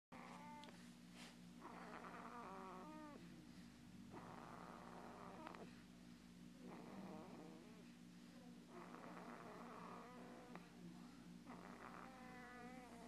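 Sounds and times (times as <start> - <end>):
steady low hum: 0.1 - 13.0
baby snoring faintly: 1.6 - 5.9, 6.5 - 13.0.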